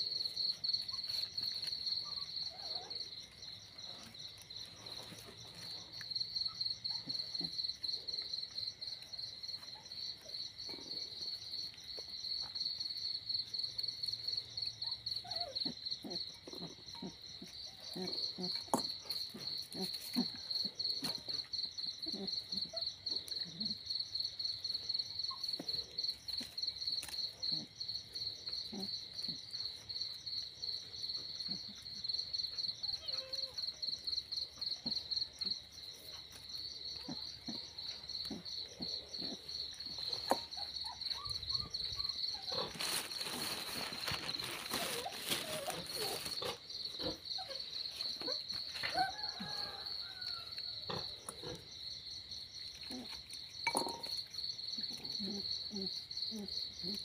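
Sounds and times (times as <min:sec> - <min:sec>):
insects trilling: 0:00.0 - 0:57.0
piglet chewing and snuffling: 0:00.0 - 0:57.0.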